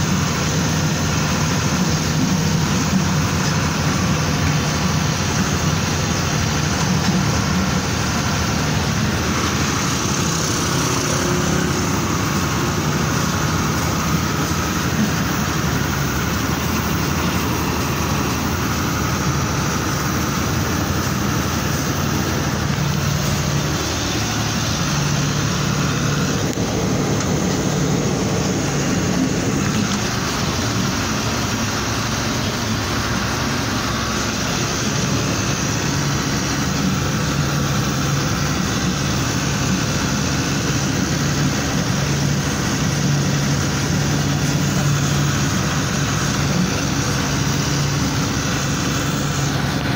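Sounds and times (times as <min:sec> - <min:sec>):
road noise: 0:00.0 - 0:49.9
truck engine rumbling: 0:00.0 - 0:49.9.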